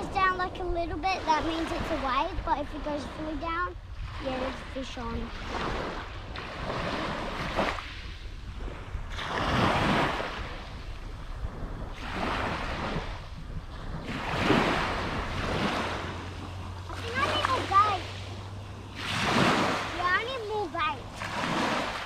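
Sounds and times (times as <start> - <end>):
small waves breaking on beach: 0.0 - 22.0
wind rumbling on microphone: 0.0 - 22.0.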